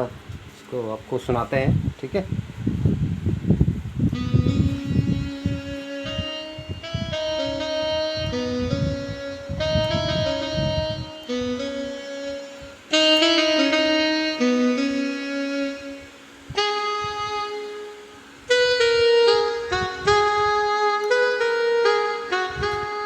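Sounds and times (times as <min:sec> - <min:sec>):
keyboard saxophone-like melody: 0:03.9 - 0:23.0.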